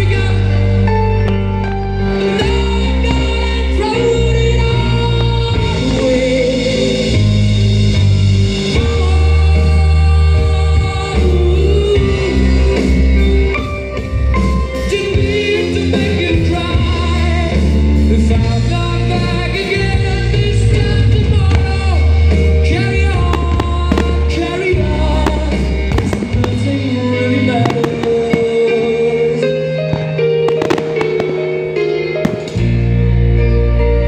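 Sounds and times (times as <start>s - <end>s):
deep held bass notes: 0.0s - 34.0s
music with singing: 0.0s - 34.0s.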